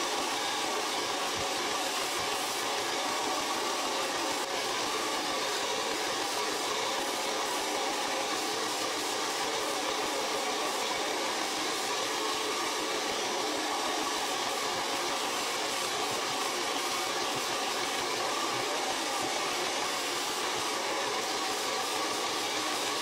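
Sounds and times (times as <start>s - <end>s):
blow dryer running: 0.0s - 23.0s.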